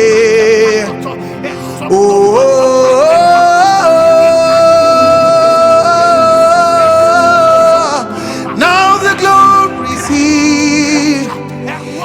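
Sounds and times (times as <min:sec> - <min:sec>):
person singing a long high note: 0:00.0 - 0:12.0
worship backing music: 0:00.0 - 0:12.0.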